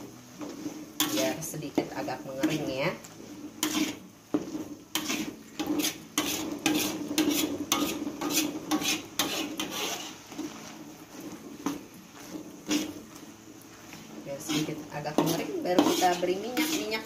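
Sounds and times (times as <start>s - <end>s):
metal spatula scraping a wok: 0.0s - 17.0s.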